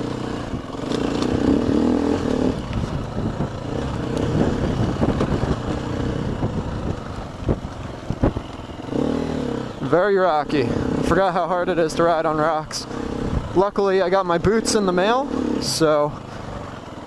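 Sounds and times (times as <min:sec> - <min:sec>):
bike knocking and rattling: 0:00.0 - 0:15.2
dirt bike engine running: 0:00.0 - 0:17.0.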